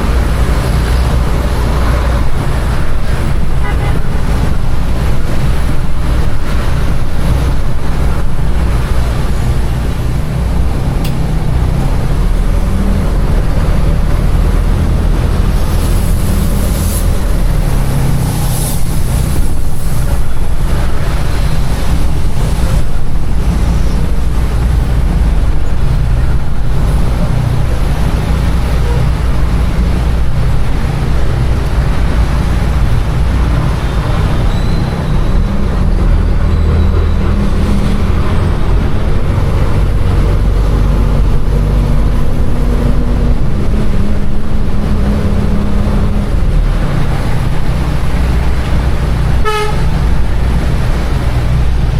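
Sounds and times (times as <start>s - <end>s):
diesel truck engine rumbling: 0.0s - 51.9s.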